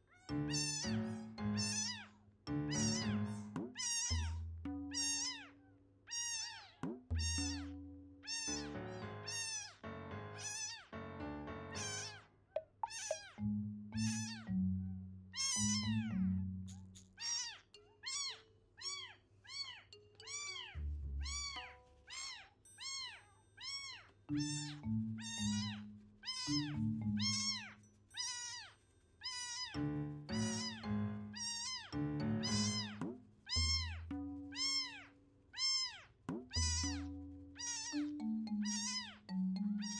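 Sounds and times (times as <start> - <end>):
kitten mewing: 0.1 - 9.8, 10.4 - 10.9, 11.7 - 13.4, 14.0 - 14.5, 15.3 - 39.2.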